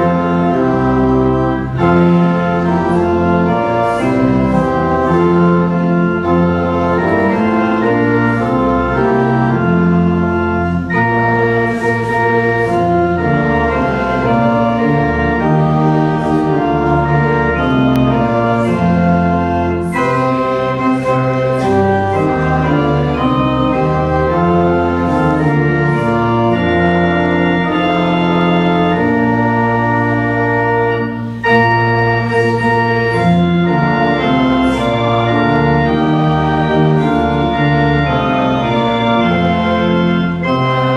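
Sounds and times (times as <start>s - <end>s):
pipe organ chords: 0.0s - 40.9s.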